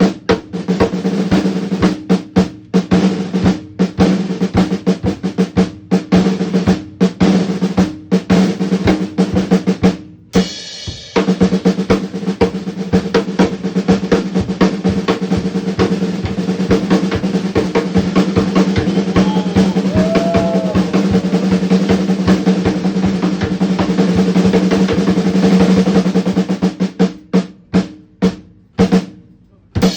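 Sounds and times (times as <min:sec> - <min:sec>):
fast drum roll: 0:00.0 - 0:27.0.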